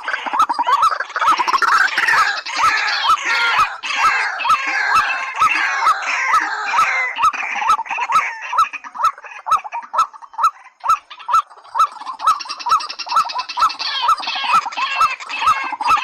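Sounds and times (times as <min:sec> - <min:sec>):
high chattering bird calls: 0:00.0 - 0:16.0.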